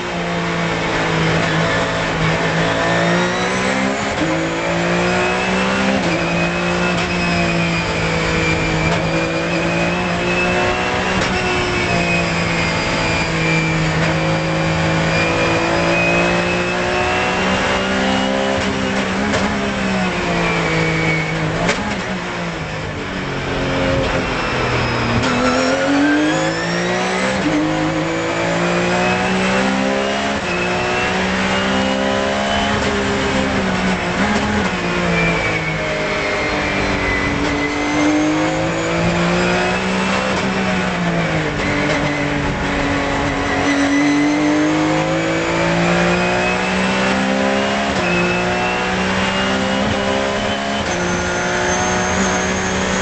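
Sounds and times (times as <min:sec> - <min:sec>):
racing engine accelerating: 0:00.0 - 0:53.0.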